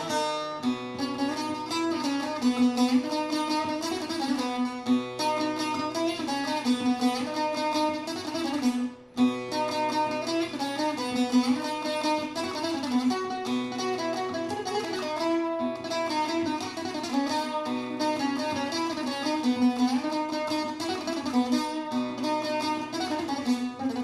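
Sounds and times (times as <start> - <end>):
plucked string instruments: 0.0 - 24.0.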